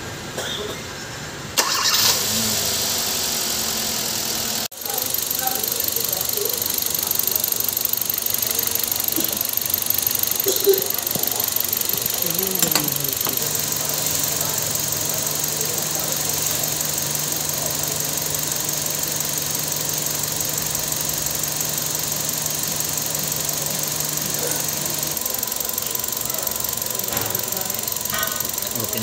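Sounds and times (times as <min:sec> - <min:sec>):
car engine idling: 0:01.6 - 0:29.0.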